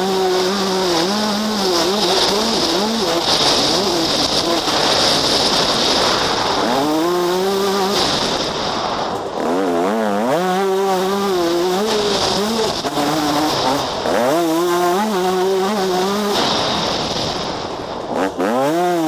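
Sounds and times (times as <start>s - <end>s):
motocross engine revving hard: 0.0s - 8.7s, 9.3s - 19.0s
wind rushing over microphone: 0.0s - 19.0s.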